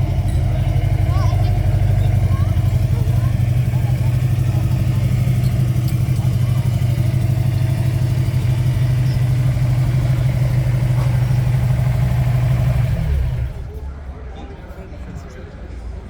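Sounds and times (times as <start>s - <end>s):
car engine idling: 0.0s - 14.2s.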